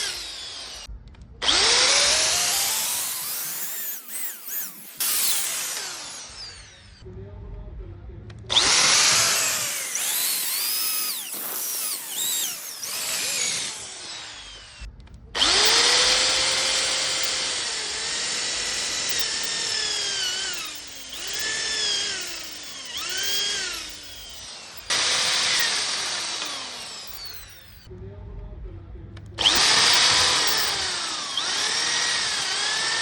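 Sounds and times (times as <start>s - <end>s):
power tool cutting wood: 0.0s - 7.1s, 8.5s - 27.9s, 29.4s - 33.0s.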